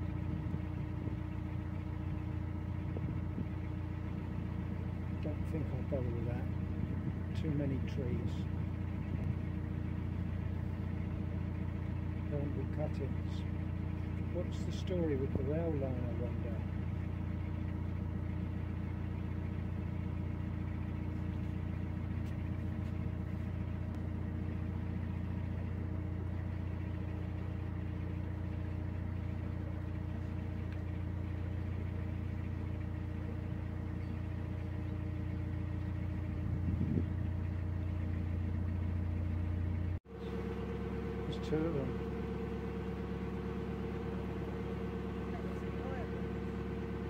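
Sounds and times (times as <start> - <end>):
diesel boat engine droning: 0.0 - 47.0.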